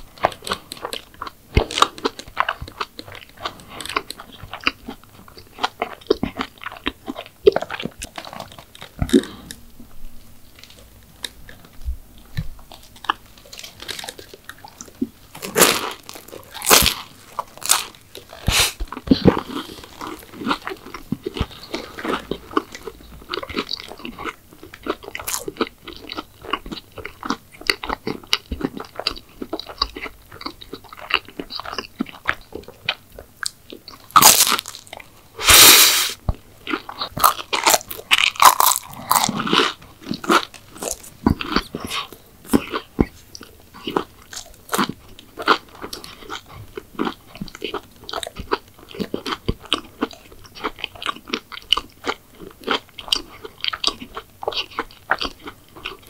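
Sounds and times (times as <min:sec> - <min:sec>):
crunchy chewing: 0:00.0 - 0:09.7, 0:10.5 - 0:56.0.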